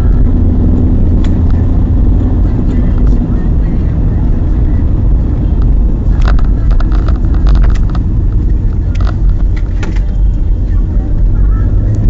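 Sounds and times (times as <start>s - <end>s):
car driving cabin rumble: 0.0s - 12.0s.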